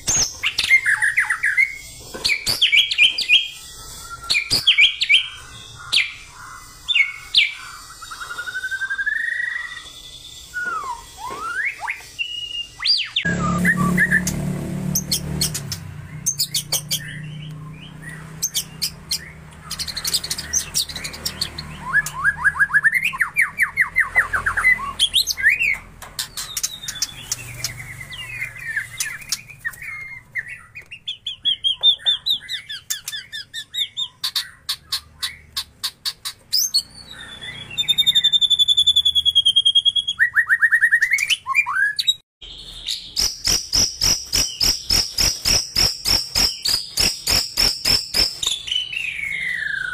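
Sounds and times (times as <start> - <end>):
bird singing varied song: 0.0 - 49.9
bird ticking trill: 2.4 - 39.9, 43.0 - 49.6.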